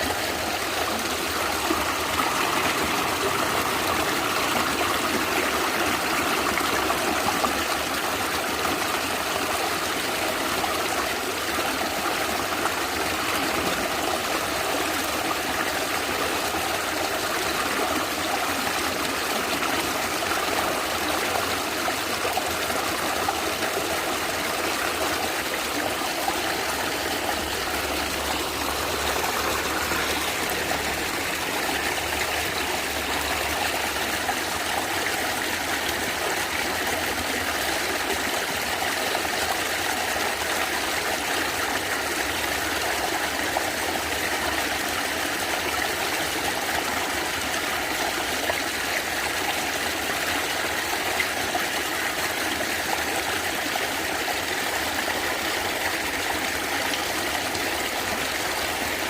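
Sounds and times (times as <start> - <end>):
stream gurgling over stones: 0.0 - 59.0.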